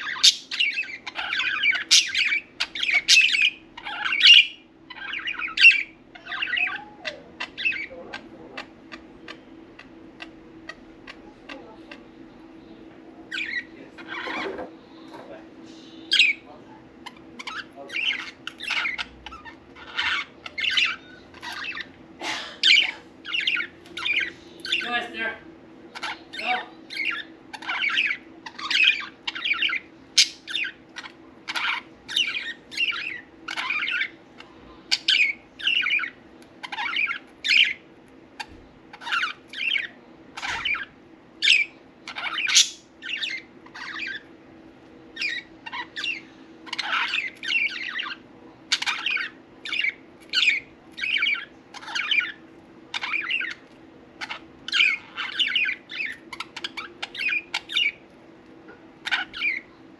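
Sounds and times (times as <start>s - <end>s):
budgerigars chirping: 0.0s - 12.1s, 13.3s - 14.7s, 16.0s - 22.0s, 22.6s - 44.4s, 45.1s - 58.1s, 58.9s - 59.8s
low steady hum: 0.0s - 59.9s.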